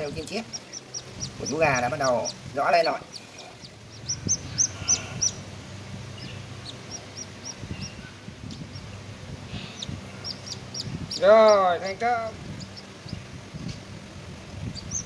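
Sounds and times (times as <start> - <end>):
chick peeping: 0.0 - 15.0.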